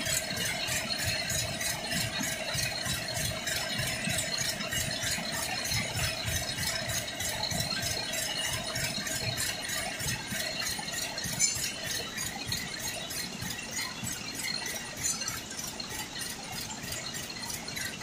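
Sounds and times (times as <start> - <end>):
machinery rhythmic rattle: 0.0 - 18.0.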